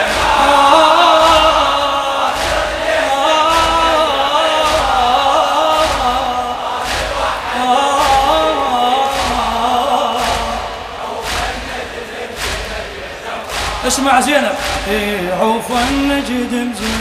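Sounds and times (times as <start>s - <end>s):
men chanting: 0.0s - 17.0s
rhythmic chest-beating thumps: 0.0s - 17.0s.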